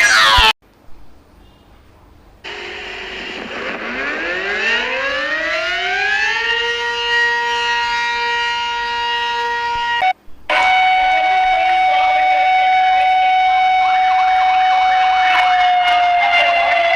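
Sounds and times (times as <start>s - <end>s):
emergency siren winding up: 2.5s - 16.9s.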